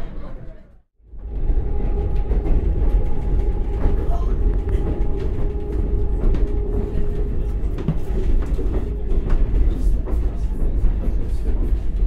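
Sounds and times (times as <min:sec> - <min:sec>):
train rumble in cabin: 0:01.0 - 0:12.0.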